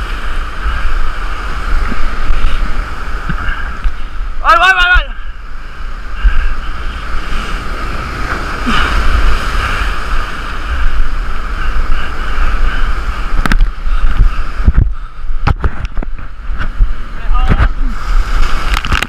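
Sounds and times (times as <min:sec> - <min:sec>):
surf crashing over rocks: 0:00.0 - 0:19.0
wind buffeting microphone: 0:00.0 - 0:19.0.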